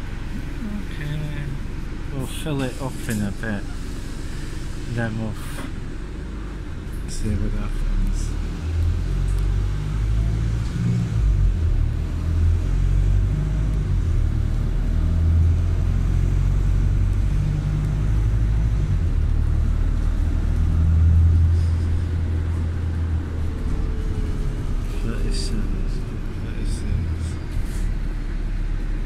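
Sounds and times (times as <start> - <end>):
road noise: 0.0 - 29.0
vehicle engine rumble: 0.0 - 29.0.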